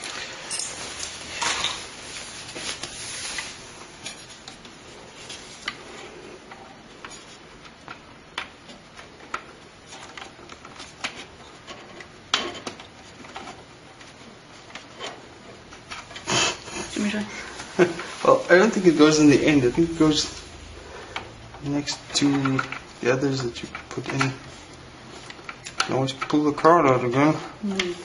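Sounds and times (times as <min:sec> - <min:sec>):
plastic and metal rustling: 0:00.0 - 0:28.0.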